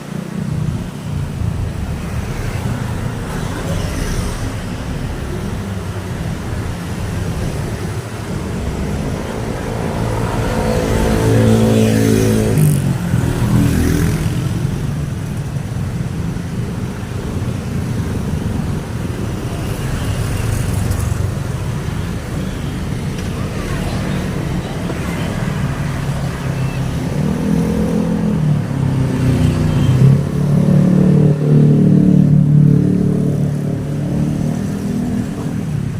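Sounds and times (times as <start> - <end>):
road traffic: 0.0 - 35.9.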